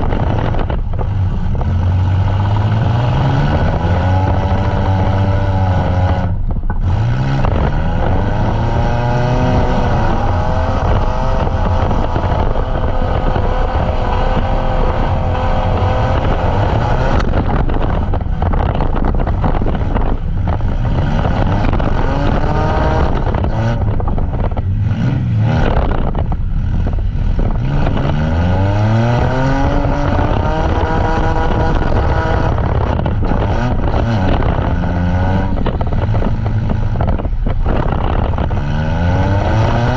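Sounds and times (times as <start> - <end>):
van engines revving: 0.0 - 39.9.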